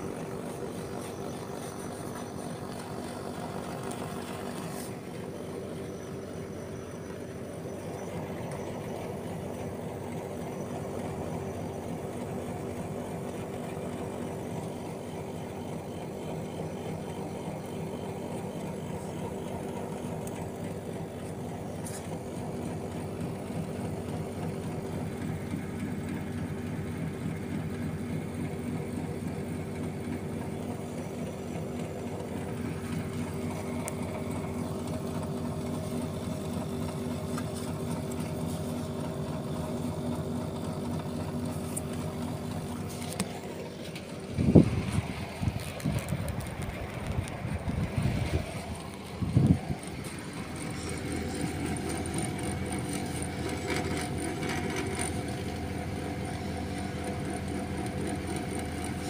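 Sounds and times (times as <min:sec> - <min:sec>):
air conditioner unit humming: 0:00.0 - 0:59.0.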